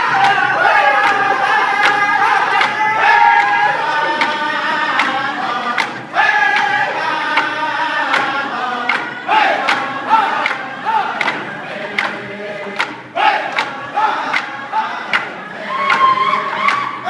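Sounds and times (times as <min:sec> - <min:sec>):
group singing in high voices: 0:00.0 - 0:17.0
steady hand-drum beat: 0:00.0 - 0:17.0.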